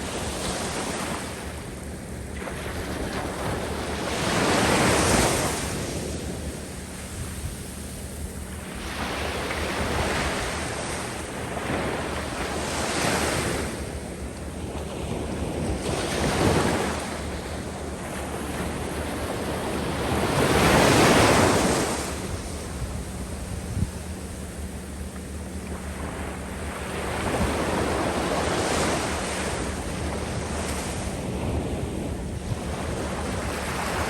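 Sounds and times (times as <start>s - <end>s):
waves breaking on beach: 0.0s - 34.0s
wind rumble on microphone: 0.0s - 34.0s.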